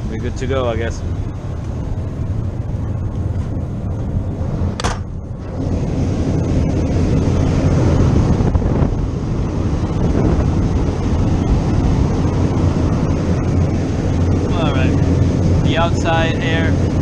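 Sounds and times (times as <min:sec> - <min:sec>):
heater burner and blower roar: 0:00.0 - 0:17.0
low hum: 0:00.0 - 0:17.0.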